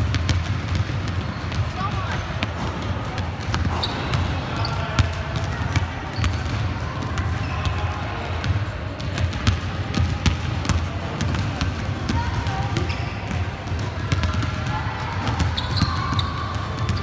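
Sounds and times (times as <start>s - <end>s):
basketballs bouncing on hardwood floor: 0.0s - 7.8s, 8.4s - 17.0s.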